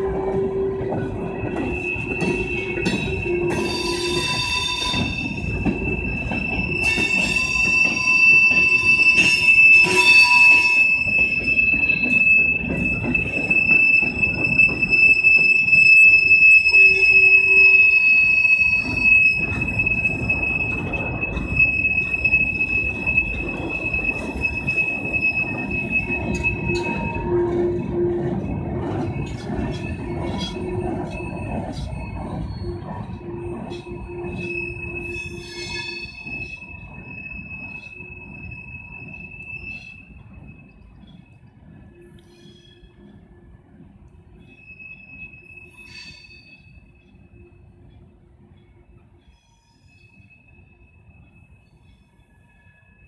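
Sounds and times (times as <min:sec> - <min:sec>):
train wheels rumbling on rail: 0:00.0 - 0:53.0
high thin wheel squeal: 0:00.6 - 0:41.2, 0:44.4 - 0:47.6.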